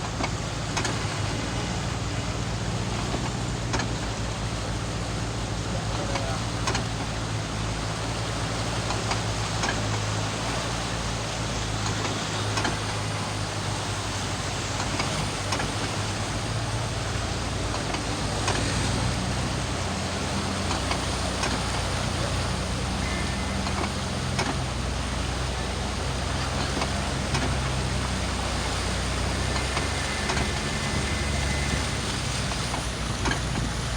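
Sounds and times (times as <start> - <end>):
broad rushing noise: 0.0 - 33.9
vehicle engine running: 0.0 - 33.9.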